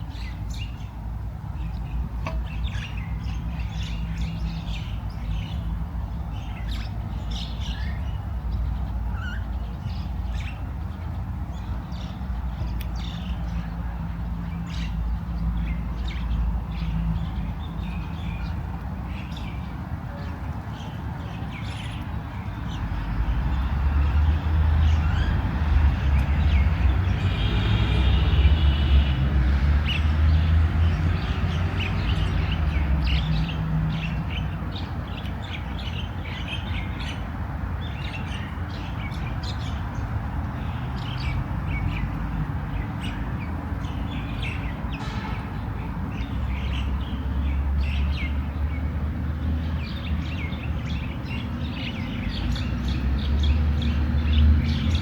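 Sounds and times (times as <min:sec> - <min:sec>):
small birds chirping: 0:00.0 - 0:29.1, 0:29.9 - 0:55.0.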